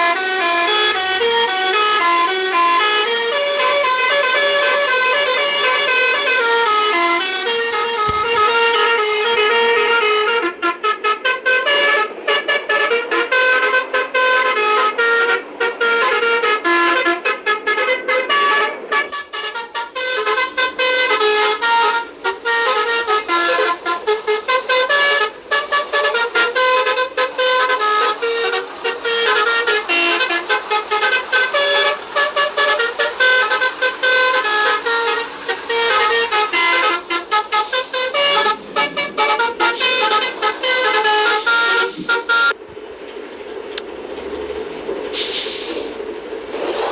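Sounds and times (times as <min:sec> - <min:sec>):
multi-tone bus horn tune: 0:00.0 - 0:42.7, 0:45.1 - 0:46.0.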